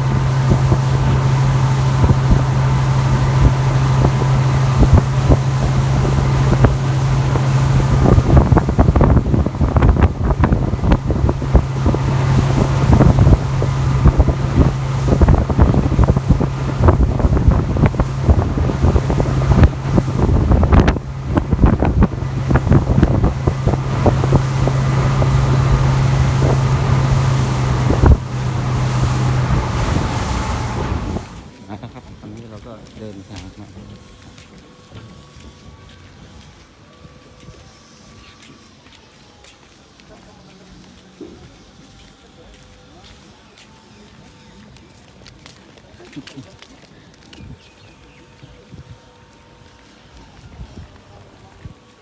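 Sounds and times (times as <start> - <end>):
wind buffeting microphone: 0.0 - 38.8, 46.0 - 52.0
motorboat engine drone: 0.0 - 52.0.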